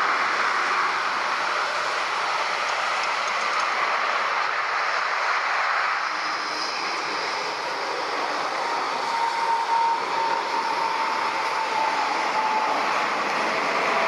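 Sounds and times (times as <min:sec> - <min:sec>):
high jet engine whine: 0:00.0 - 0:14.0
jet engines roaring: 0:00.0 - 0:14.0.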